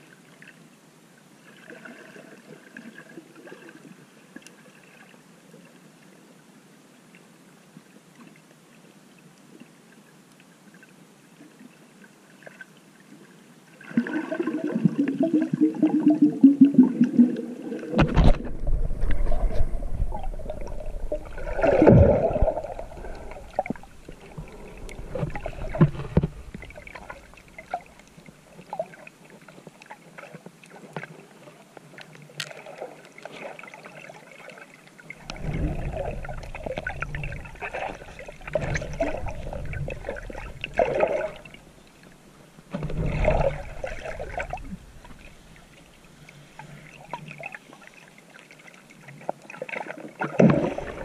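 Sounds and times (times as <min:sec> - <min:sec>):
muffled water sloshing and bubbling: 0:01.3 - 0:06.1, 0:07.9 - 0:51.0
water splashing and churning: 0:01.4 - 0:05.3, 0:12.3 - 0:51.0.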